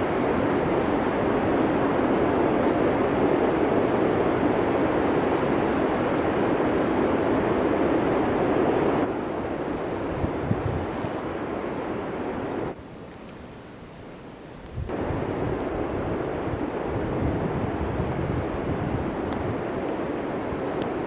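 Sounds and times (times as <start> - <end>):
rushing blizzard wind: 0.0 - 21.0.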